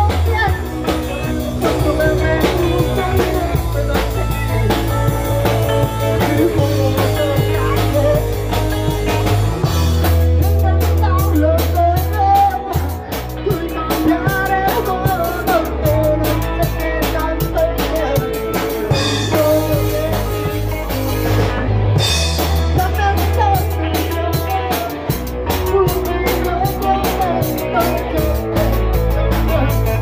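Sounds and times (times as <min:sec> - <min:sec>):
bass guitar low notes: 0:00.0 - 0:30.0
drum kit beat: 0:00.0 - 0:30.0
guitar lead melody: 0:00.0 - 0:30.0.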